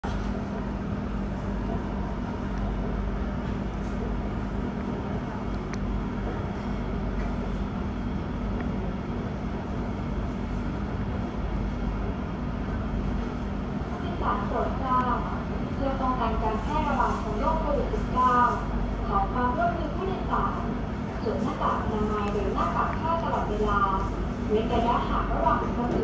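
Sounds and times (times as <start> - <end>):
metro train rumbling: 0.0 - 26.0.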